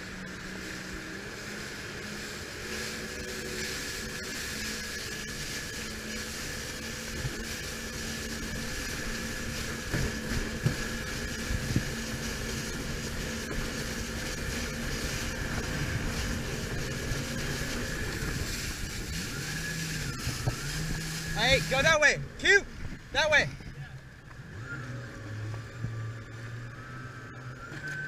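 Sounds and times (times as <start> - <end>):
watercraft engine idling: 0.0 - 27.8.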